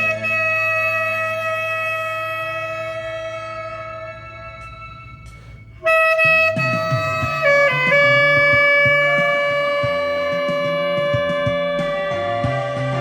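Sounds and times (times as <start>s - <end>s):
saxophone melody: 0.0s - 12.5s
backing track: 0.0s - 13.0s.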